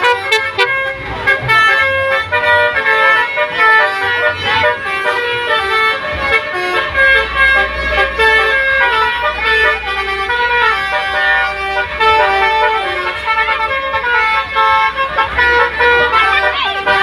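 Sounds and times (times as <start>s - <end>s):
multi-tone musical horn: 0.0s - 17.0s.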